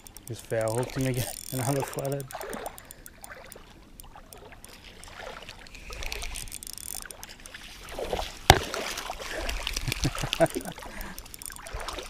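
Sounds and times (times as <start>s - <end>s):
fish splashing in water: 0.0s - 12.0s.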